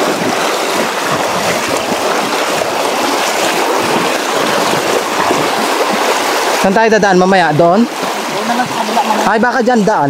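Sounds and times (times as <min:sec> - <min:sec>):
river current rushing: 0:00.0 - 0:10.0.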